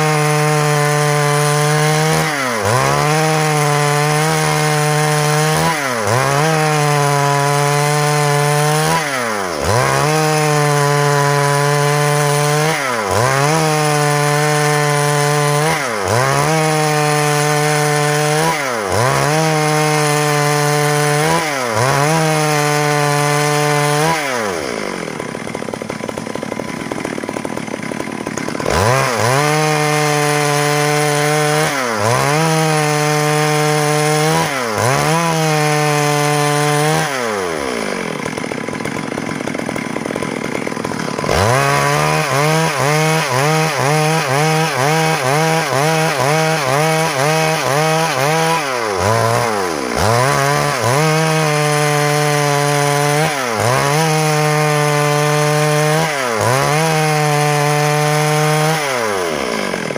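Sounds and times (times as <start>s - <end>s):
chainsaw cutting log: 0.0s - 59.9s
chainsaw idling: 0.0s - 59.9s.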